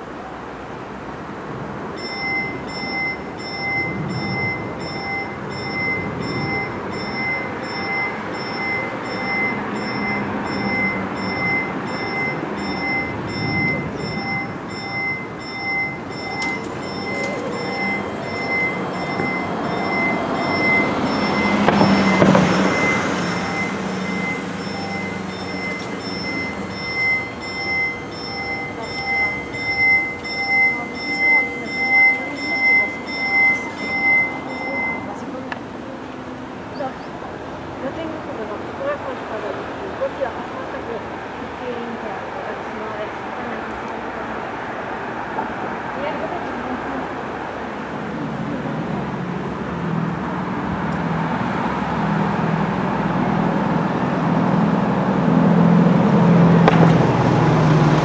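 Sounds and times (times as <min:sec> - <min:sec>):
road traffic passing: 0:00.0 - 0:58.0
level crossing warning bells: 0:01.1 - 0:58.0.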